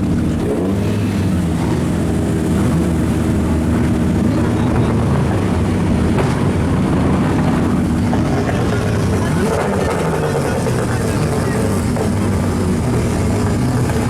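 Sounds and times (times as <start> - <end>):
turbocharged car engine running: 0.0 - 14.0.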